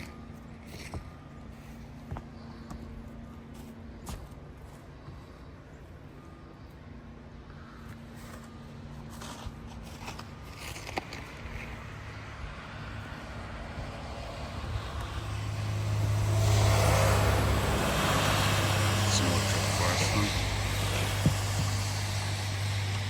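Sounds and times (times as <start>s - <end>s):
vehicle engine drone: 0.0s - 23.0s.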